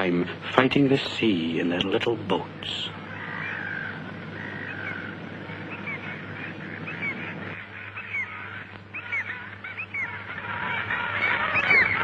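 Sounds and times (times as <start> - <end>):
gulls squawking: 0.0 - 12.0
low steady hum: 0.0 - 12.0.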